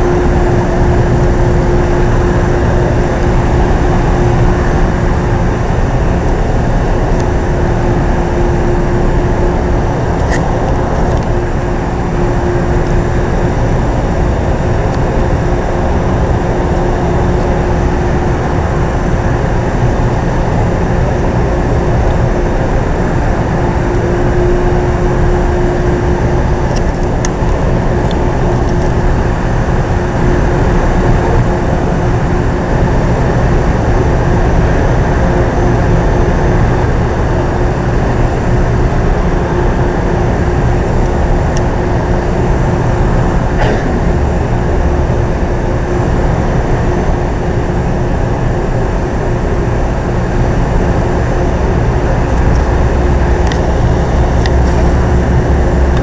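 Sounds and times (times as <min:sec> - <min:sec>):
train equipment hum and rumble: 0:00.0 - 0:56.0.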